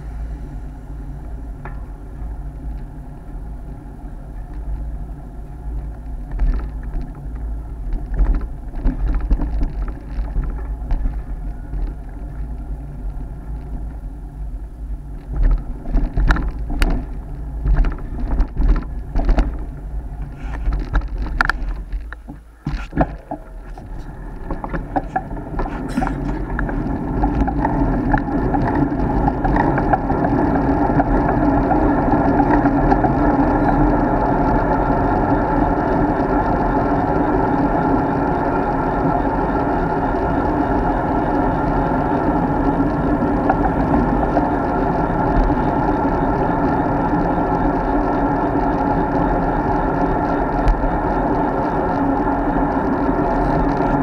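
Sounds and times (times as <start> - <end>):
wind buffeting microphone: 0.0 - 54.0
bike rattling clicks and knocks: 4.3 - 54.0.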